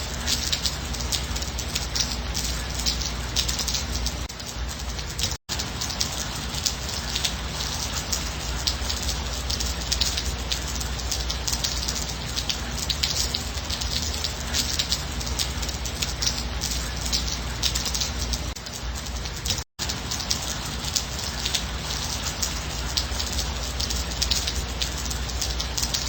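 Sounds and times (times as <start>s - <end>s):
gentle rain falling: 0.0s - 26.0s
raindrops ticking: 0.0s - 26.0s.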